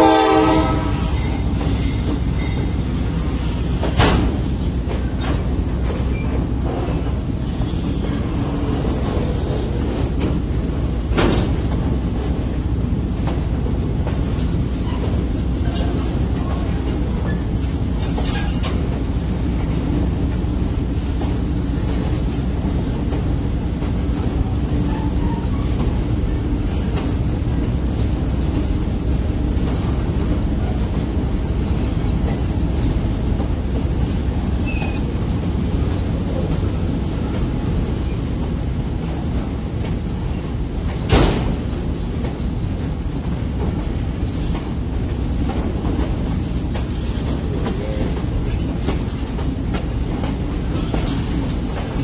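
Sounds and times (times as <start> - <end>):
train rumbling along track: 0.0 - 52.0.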